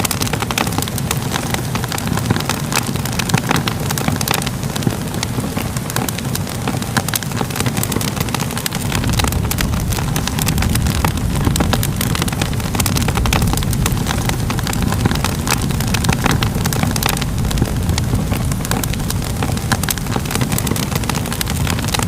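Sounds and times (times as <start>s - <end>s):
fire popping and snapping: 0.0s - 22.0s
fire rumbling: 0.0s - 22.0s.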